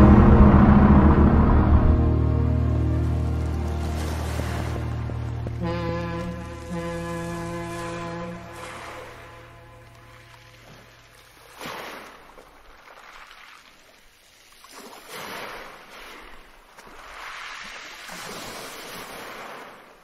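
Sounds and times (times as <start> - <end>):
sea waves washing: 0.0 - 20.0.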